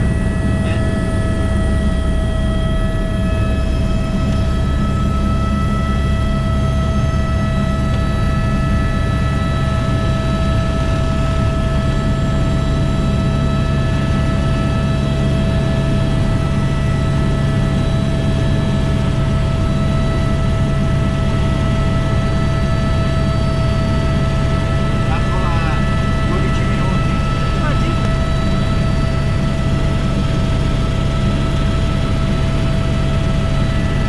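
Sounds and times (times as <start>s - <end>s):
helicopter rotor and engine rumble: 0.0s - 34.0s
steady whine: 0.0s - 34.0s.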